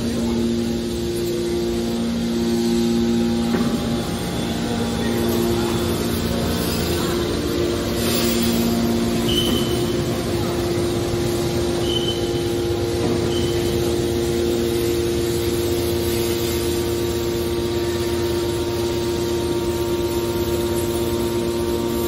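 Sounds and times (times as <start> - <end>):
machinery motors and pumps humming: 0.0 - 22.0.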